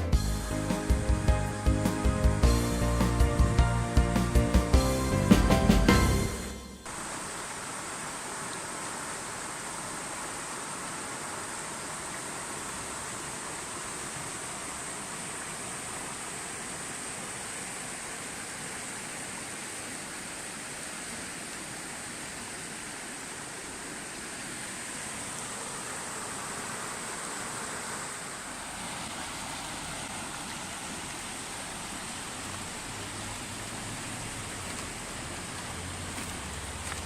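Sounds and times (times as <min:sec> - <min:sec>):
river water rushing over rocks: 0:06.9 - 0:37.0.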